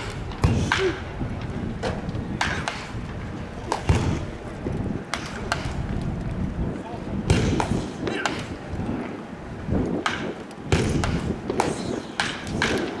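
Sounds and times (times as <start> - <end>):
baseball bats cracking balls: 0.0 - 13.0.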